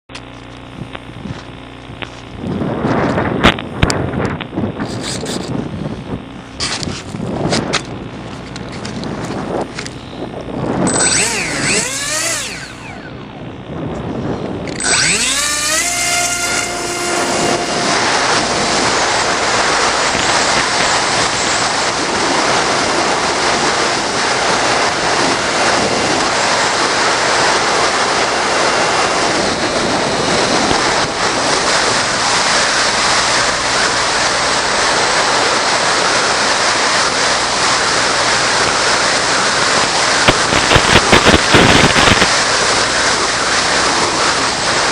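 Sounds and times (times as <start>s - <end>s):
model airplane motor whine: 0.1s - 44.9s
wind noise: 0.2s - 44.9s.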